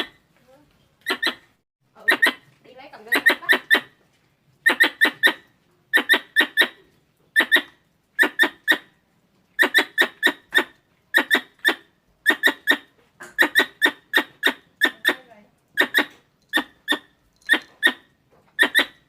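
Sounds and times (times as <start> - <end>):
squirrel chirping: 1.0 - 4.0, 4.6 - 8.9, 9.6 - 19.0.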